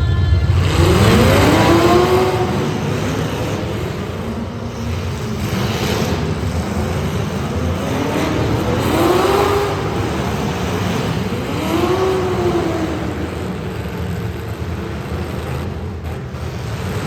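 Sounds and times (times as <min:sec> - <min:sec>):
race car engines running hard: 0:00.0 - 0:17.0.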